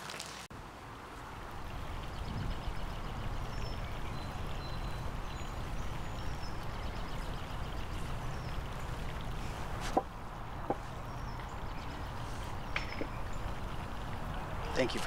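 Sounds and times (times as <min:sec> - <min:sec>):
outdoor background noise: 0:00.0 - 0:15.0
small birds chirping: 0:01.7 - 0:15.0.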